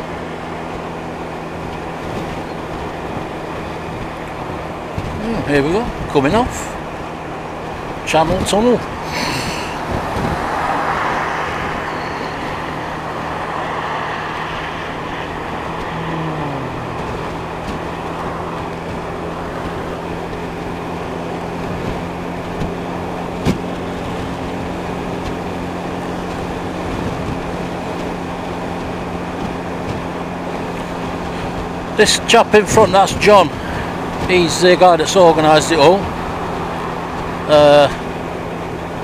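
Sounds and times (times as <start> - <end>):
motorcycle engine hum: 0.0 - 39.0
wind and road rush: 0.0 - 39.0.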